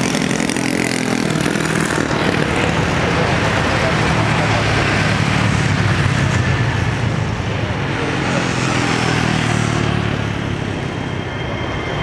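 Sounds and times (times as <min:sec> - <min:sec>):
engine hum with rushing: 0:00.0 - 0:12.0.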